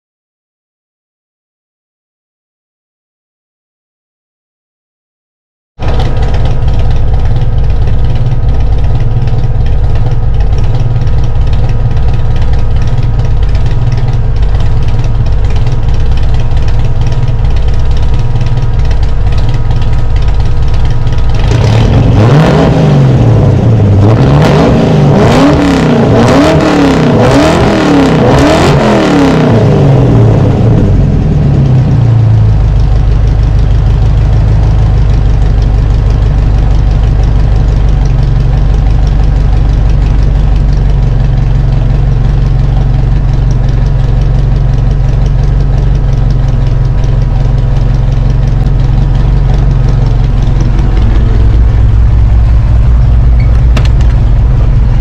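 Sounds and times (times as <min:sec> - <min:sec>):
car engine idling and revving: 0:05.8 - 0:55.0.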